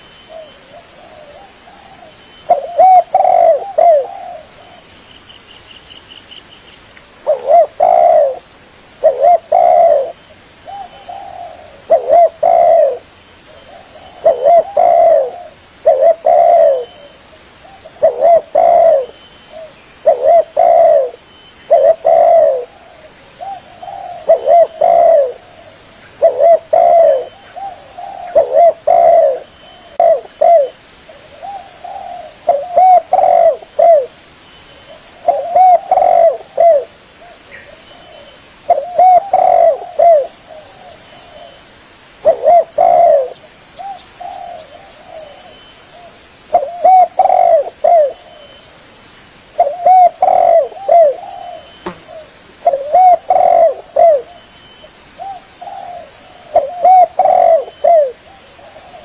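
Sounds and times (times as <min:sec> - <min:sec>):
dove cooing: 0:00.0 - 0:04.9, 0:07.2 - 0:08.4, 0:09.0 - 0:34.2, 0:34.8 - 0:41.6, 0:42.2 - 0:48.7, 0:49.6 - 0:54.5, 0:55.2 - 0:59.0.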